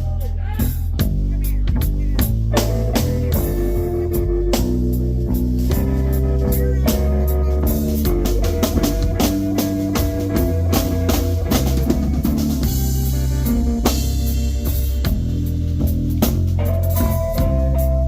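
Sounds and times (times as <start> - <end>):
bass: 0.0 - 18.0
drum kit beat: 0.0 - 18.0
electric guitar: 2.2 - 18.0.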